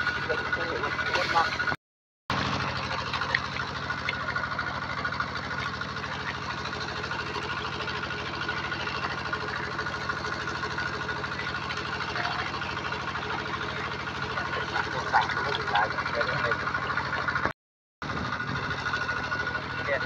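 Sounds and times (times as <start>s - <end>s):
small pump engine chugging: 0.0s - 20.0s.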